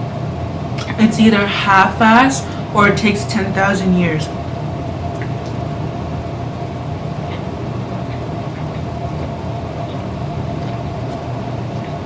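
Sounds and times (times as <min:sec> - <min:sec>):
faint constant tone: 0:00.0 - 0:12.0
low mechanical hum: 0:00.0 - 0:12.0.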